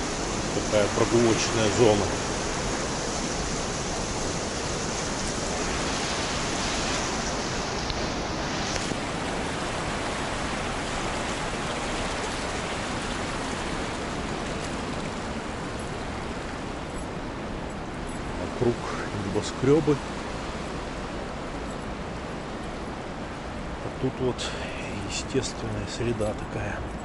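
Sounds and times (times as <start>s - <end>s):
stream rushing over stones: 0.0s - 27.0s.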